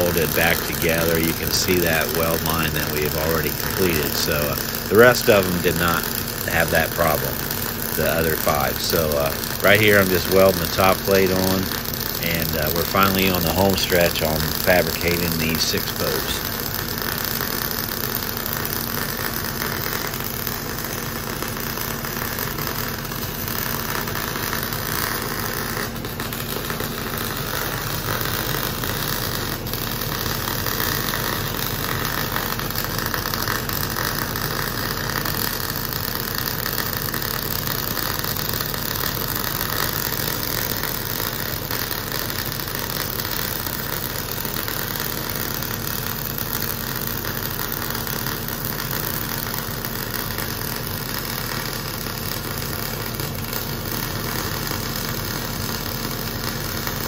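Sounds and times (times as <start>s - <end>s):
arc welding crackle: 0.0s - 57.0s.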